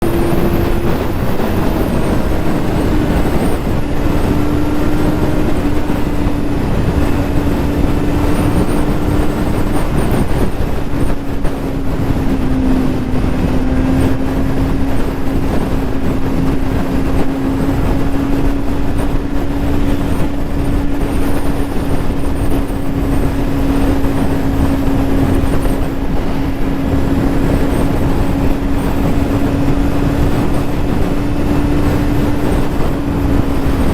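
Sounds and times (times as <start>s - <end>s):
motorcycle engine at high rpm: 0.0s - 33.9s
wind rumble on microphone: 0.0s - 33.9s.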